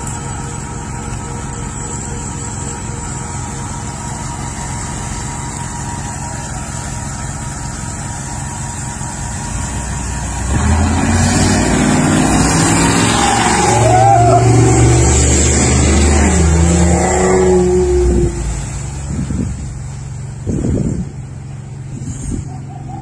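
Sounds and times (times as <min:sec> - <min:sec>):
car engine hum: 0:00.0 - 0:23.0
road noise: 0:00.0 - 0:23.0.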